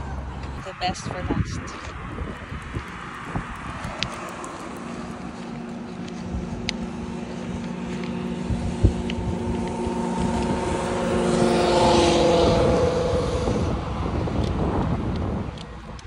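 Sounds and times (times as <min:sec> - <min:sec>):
car passing by: 0:00.0 - 0:15.6.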